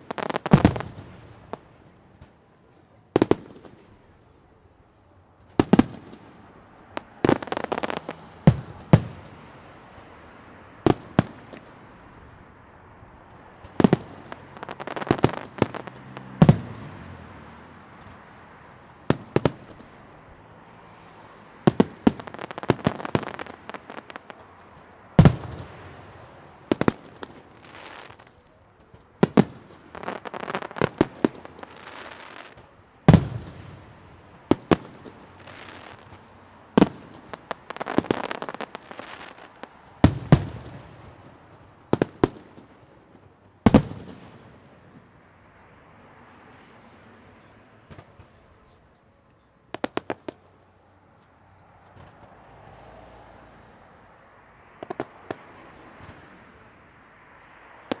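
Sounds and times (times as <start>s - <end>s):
fireworks bangs: 0.0s - 4.4s, 5.0s - 12.4s, 13.2s - 45.4s, 47.4s - 48.9s, 49.7s - 50.6s, 51.8s - 58.0s
fireworks crackling: 0.0s - 45.5s, 46.3s - 58.0s.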